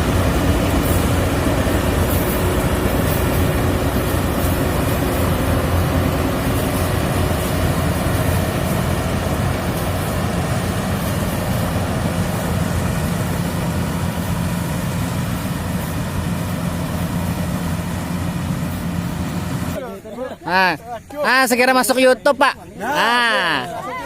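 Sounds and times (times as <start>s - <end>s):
combine harvester engine drone: 0.0s - 19.8s.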